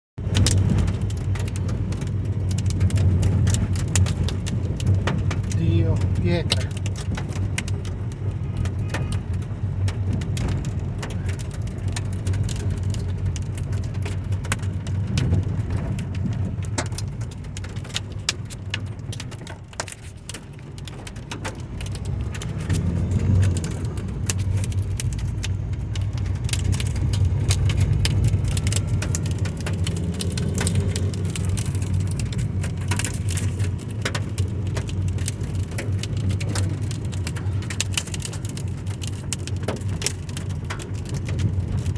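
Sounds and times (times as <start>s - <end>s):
small stones falling like hail: 0.2s - 41.9s
steady low rumble: 0.2s - 41.9s.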